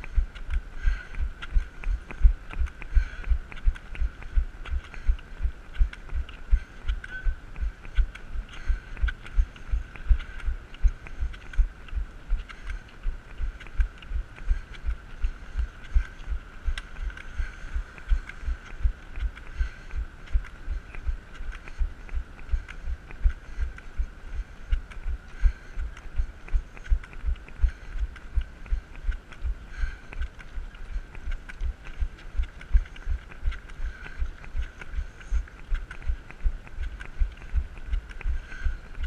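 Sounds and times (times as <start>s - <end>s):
low thumps of crutch strides: 0.0s - 39.0s.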